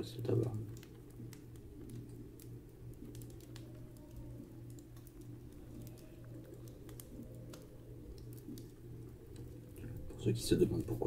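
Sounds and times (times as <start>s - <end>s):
steady low hum: 0.0s - 11.0s
faint small clicks: 0.7s - 9.9s.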